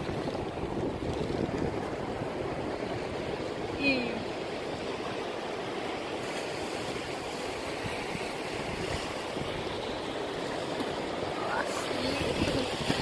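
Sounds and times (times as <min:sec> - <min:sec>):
small waves lapping on rocky shore: 0:00.0 - 0:13.0.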